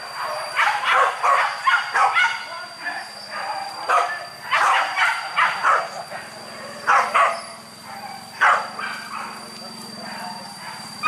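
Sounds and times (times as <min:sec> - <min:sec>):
dogs barking: 0:00.0 - 0:02.6, 0:03.2 - 0:11.0.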